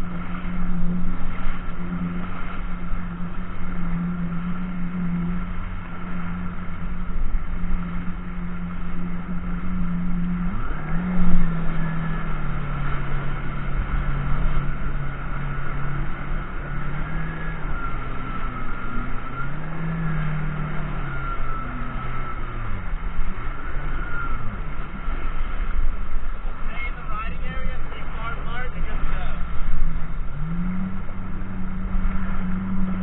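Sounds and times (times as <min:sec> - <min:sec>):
jet ski engine running: 0:00.0 - 0:33.0
rush of wind and water: 0:00.0 - 0:33.0.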